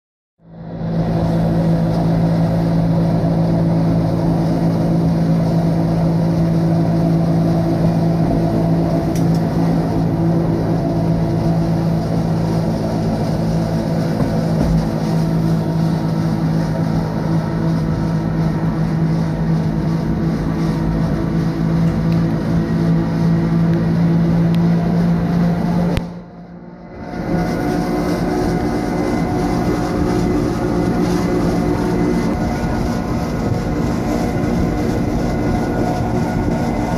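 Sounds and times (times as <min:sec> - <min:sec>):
wheels rumbling on track: 0:00.4 - 0:36.9
electric train drive hum: 0:00.5 - 0:36.9.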